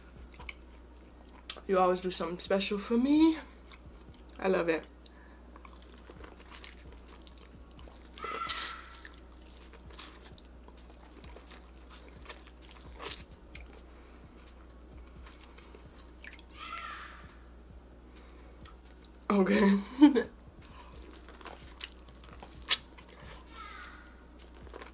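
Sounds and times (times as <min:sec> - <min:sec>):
person chewing and smacking: 0:00.2 - 0:01.7, 0:03.6 - 0:04.4, 0:05.0 - 0:17.6, 0:18.2 - 0:19.3, 0:20.3 - 0:24.9.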